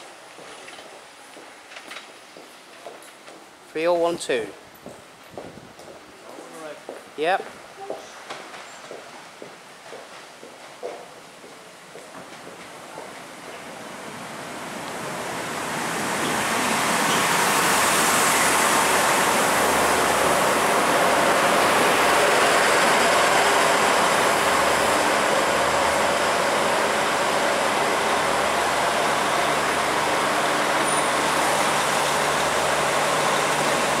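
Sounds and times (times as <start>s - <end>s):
train wheels on rails: 0.0s - 3.6s, 4.8s - 34.0s
diesel train engines: 0.0s - 34.0s.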